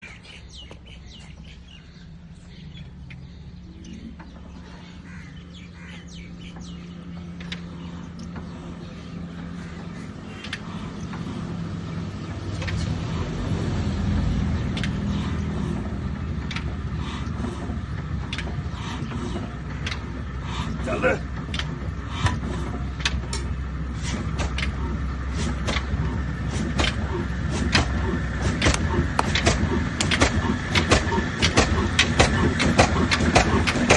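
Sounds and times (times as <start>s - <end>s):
birds chirping: 0.0s - 33.9s
diesel engine running: 0.0s - 33.9s.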